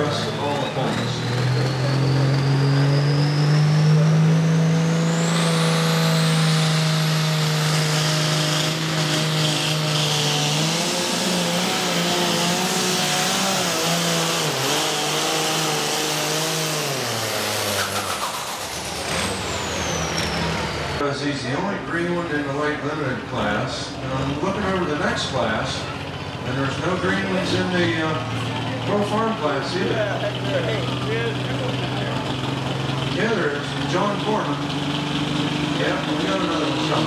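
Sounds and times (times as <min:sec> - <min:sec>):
diesel tractor engine at full throttle: 0:00.0 - 0:37.0.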